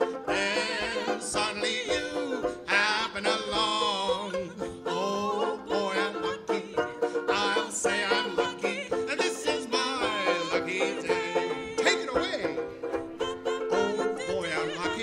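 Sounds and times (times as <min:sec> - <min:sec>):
woman and man singing: 0:00.0 - 0:12.5, 0:13.1 - 0:15.0
strummed banjo ukulele: 0:00.0 - 0:15.0
upright bass: 0:00.0 - 0:15.0.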